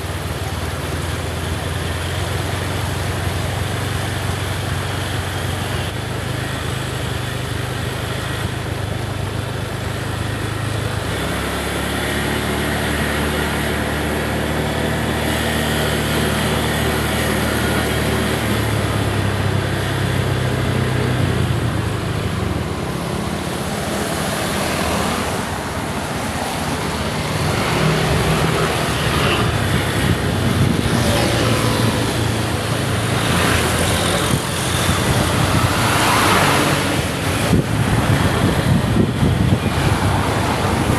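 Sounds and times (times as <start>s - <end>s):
road and wind noise: 0.0s - 40.9s
vehicle engine running: 0.0s - 40.9s.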